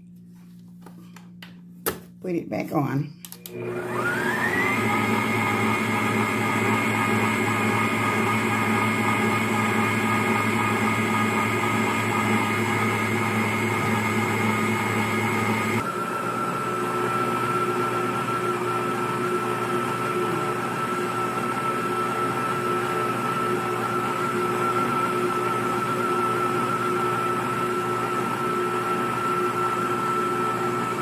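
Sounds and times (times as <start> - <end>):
electric mixer motor whining: 3.4 - 31.0.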